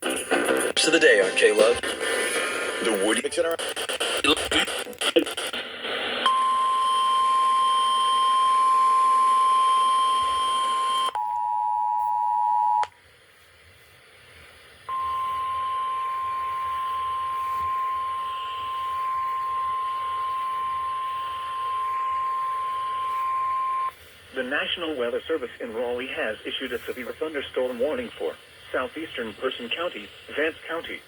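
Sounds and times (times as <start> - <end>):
radio hiss: 0.0 - 8.9, 13.2 - 31.0.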